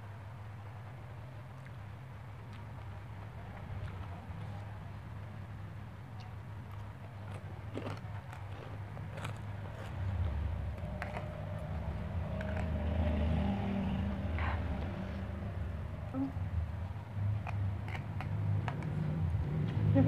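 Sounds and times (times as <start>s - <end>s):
steady low rumble: 0.0s - 20.0s
chewing: 1.0s - 20.0s.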